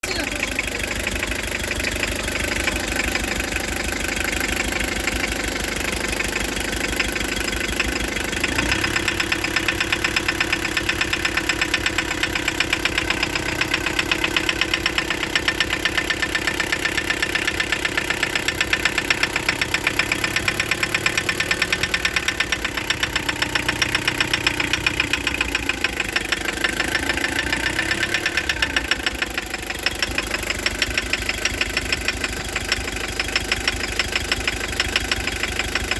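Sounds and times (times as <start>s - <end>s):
engine knocking: 0.0s - 35.9s.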